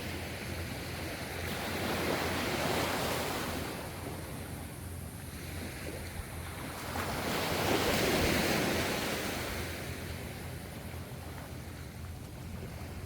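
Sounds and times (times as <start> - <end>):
ocean waves breaking: 0.8 - 13.0.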